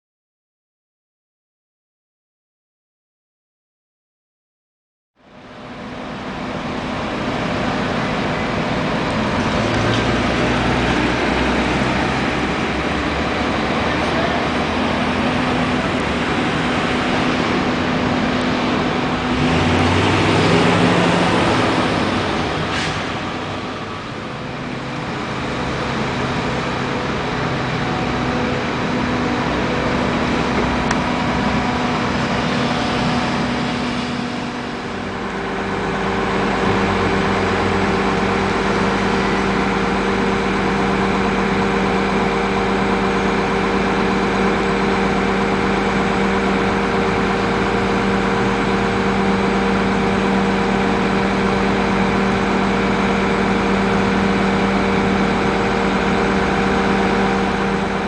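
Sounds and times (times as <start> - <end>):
heavy machinery engine running: 5.2 - 58.0.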